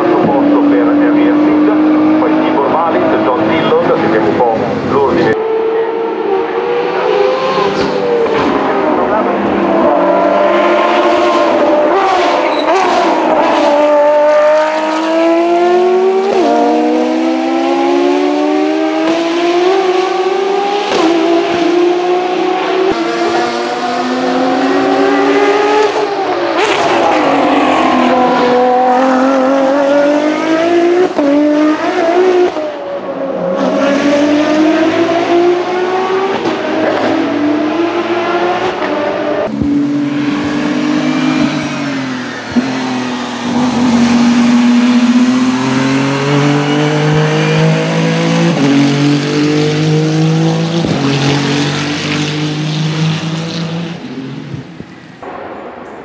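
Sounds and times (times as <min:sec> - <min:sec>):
racing cars passing at full speed: 0:00.0 - 0:56.0.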